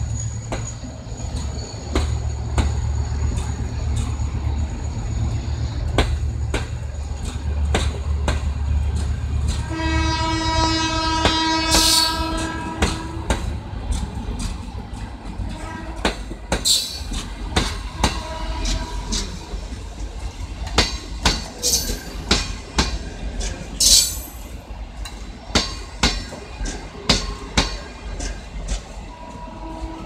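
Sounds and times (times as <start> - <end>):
low train rumble: 0.0 - 30.0.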